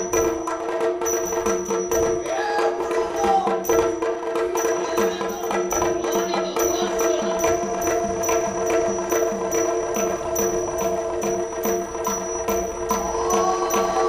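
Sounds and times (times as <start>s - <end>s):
drums: 0.0s - 14.0s
hand cymbals struck: 0.0s - 14.0s.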